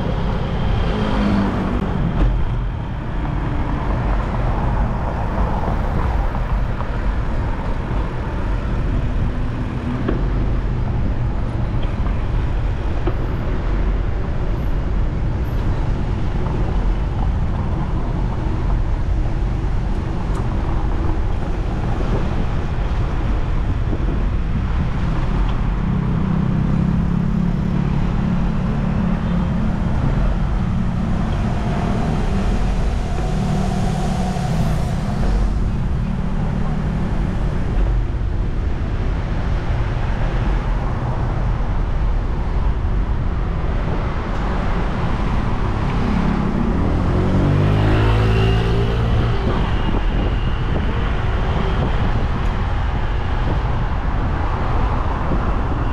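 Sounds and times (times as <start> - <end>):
road traffic: 0.0 - 55.9.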